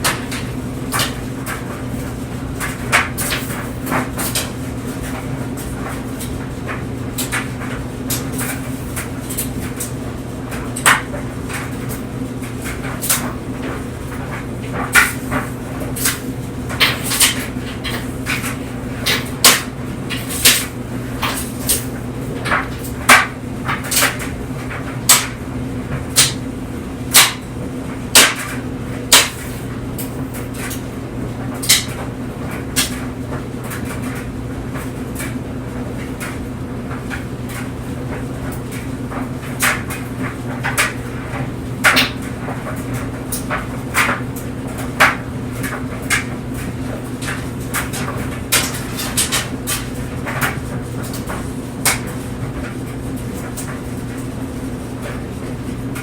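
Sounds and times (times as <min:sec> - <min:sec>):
clothes dryer humming: 0:00.0 - 0:56.0.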